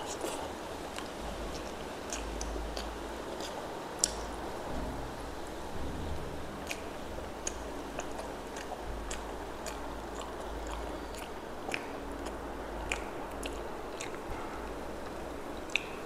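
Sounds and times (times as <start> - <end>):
person chewing food: 0.0 - 4.3, 6.6 - 16.0
wet mouth clicks: 0.0 - 4.3, 6.6 - 14.3, 15.0 - 16.0.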